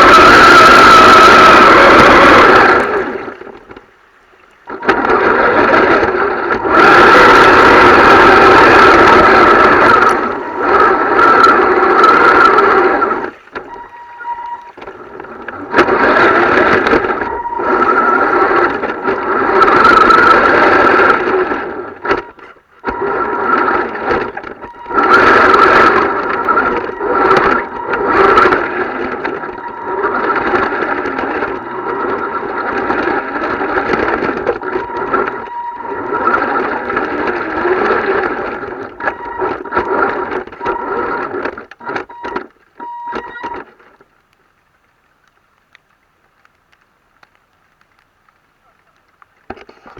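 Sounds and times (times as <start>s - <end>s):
toy truck motor whining: 0.0s - 3.6s, 4.7s - 43.7s.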